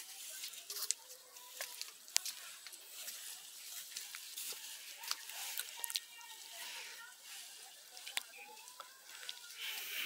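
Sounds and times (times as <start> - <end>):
footsteps through grass: 0.0 - 10.0
grass bundle rustling: 0.0 - 10.0.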